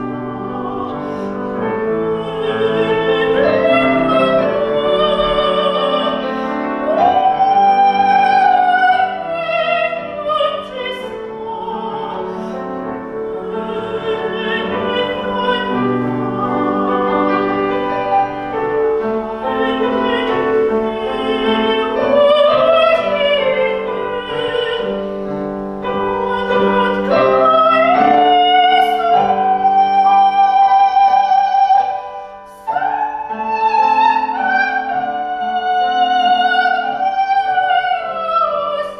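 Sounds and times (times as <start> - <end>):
piano accompaniment: 0.0 - 38.9
soprano singing operatically: 0.0 - 38.9.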